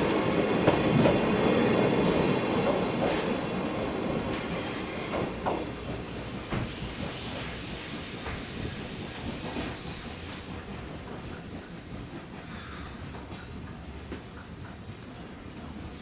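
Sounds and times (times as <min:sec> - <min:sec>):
wheels clacking over rail joints: 0:00.0 - 0:13.7
rail coaches rolling rumble: 0:00.0 - 0:16.0.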